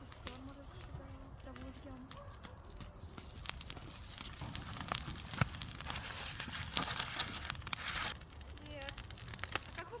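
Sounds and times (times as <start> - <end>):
bonfire crackling and popping: 0.0 - 10.0.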